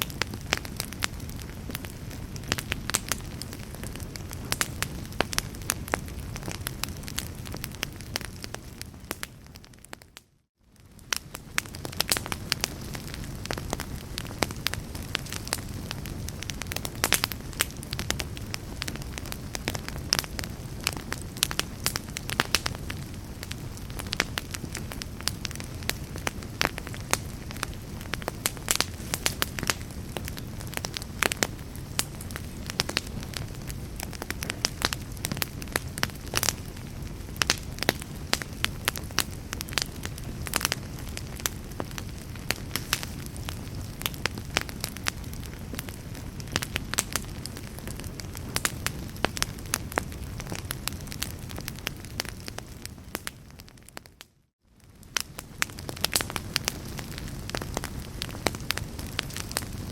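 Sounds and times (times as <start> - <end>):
log fire crackling: 0.0 - 59.9.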